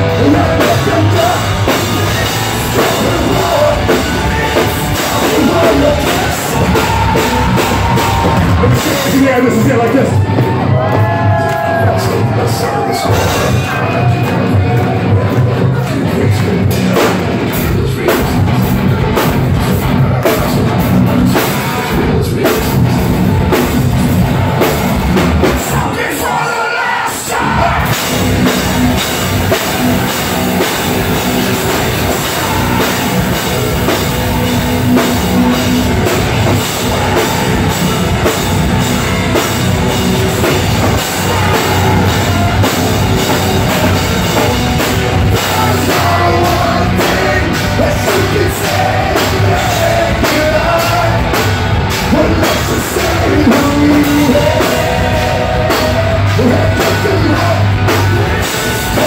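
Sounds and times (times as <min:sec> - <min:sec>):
person singing: 0:00.0 - 0:24.3, 0:25.4 - 0:59.0
drum kit beats and cymbals: 0:00.0 - 0:59.0
electric guitars: 0:00.0 - 0:59.0.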